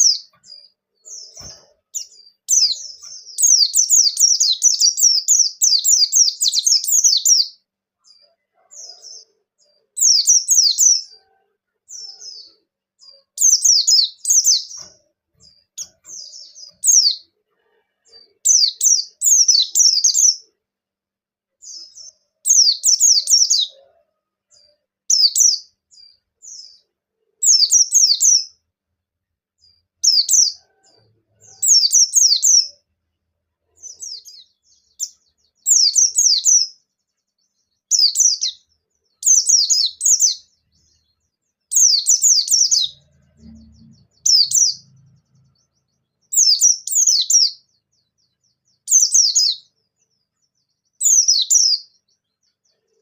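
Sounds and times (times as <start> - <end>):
bird singing twittering song: 0.0 - 20.8, 21.5 - 53.0.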